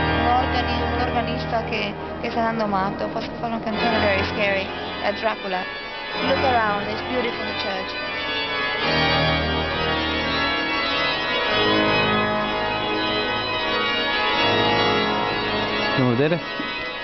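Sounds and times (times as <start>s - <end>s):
pipe organ playing creepy chords: 0.0s - 17.0s.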